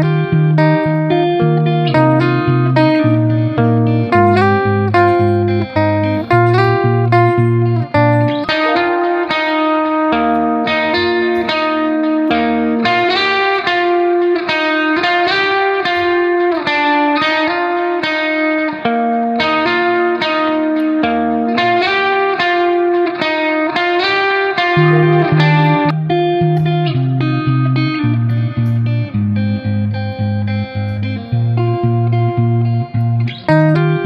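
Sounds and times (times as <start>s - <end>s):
guitar picking melody: 0.0s - 34.0s.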